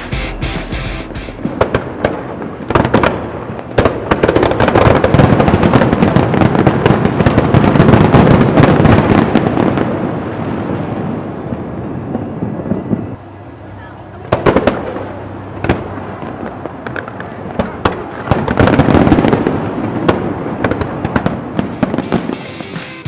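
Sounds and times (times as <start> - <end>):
fireworks crackling: 0.0 - 12.8, 14.2 - 23.0.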